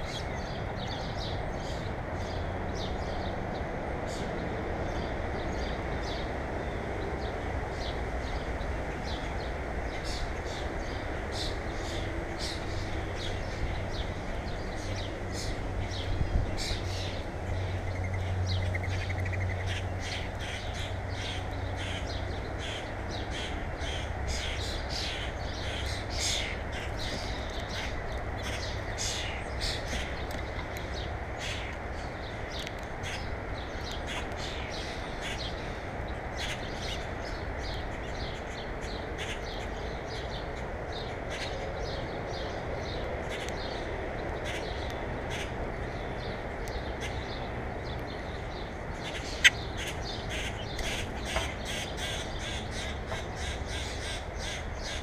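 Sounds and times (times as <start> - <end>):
birds calling: 4.0 - 55.0.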